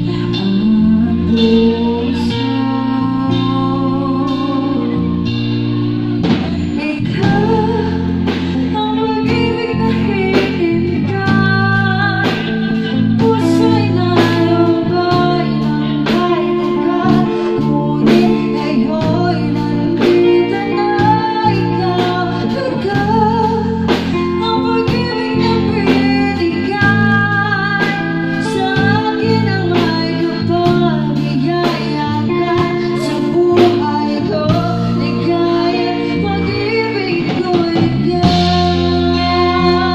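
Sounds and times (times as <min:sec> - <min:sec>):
drum kit beat: 0:00.0 - 0:39.9
electric bass: 0:00.0 - 0:39.9
electric guitar: 0:00.0 - 0:39.9
woman singing into a microphone: 0:00.0 - 0:39.9.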